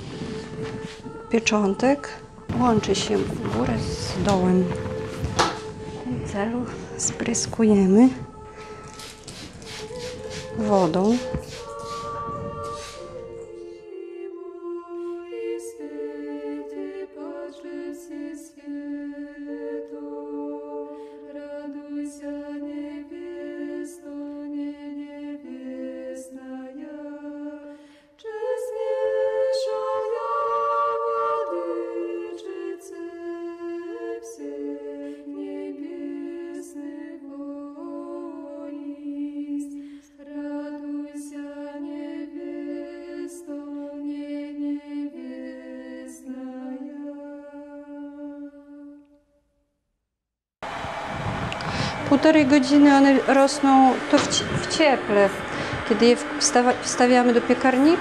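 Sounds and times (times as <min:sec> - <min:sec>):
choir singing a chant: 0:00.0 - 0:49.0, 0:50.6 - 0:58.0.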